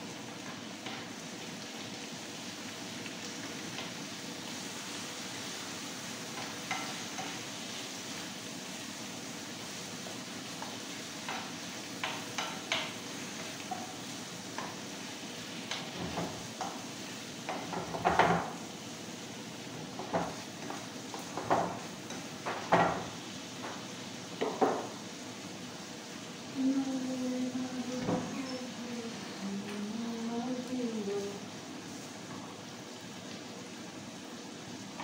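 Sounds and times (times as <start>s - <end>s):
sizzle of frying: 0.0s - 35.0s.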